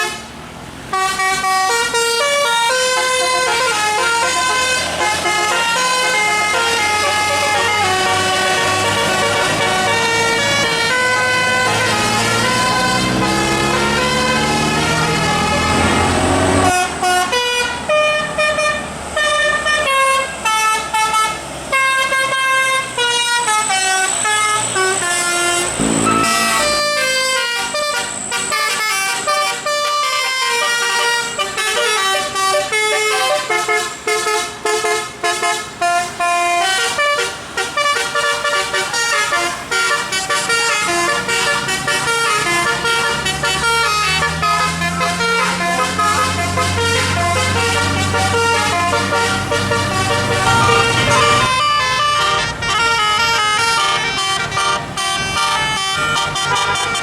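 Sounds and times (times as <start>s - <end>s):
multi-tone musical air horn: 0.0s - 0.3s, 0.9s - 57.0s
bus engine rumbling: 0.0s - 57.0s.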